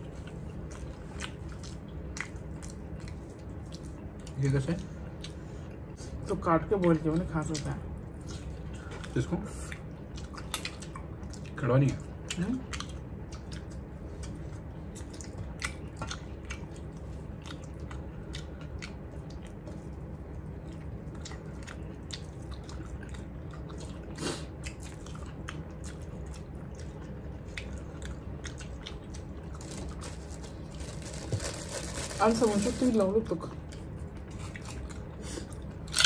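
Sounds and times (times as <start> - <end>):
people chewing with wet smacks: 0.0 - 30.8, 33.5 - 36.0
steady low hum: 0.0 - 36.0.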